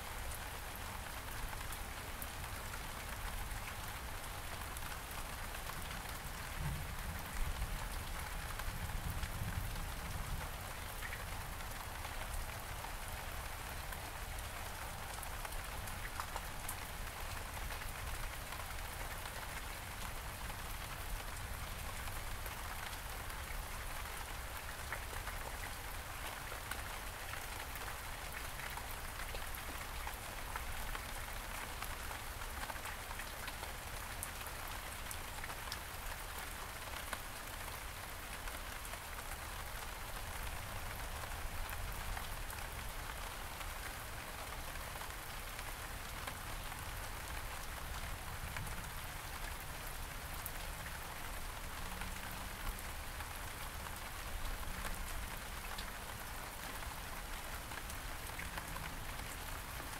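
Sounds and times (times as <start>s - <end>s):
rain falling in a garden: 0.0s - 59.9s.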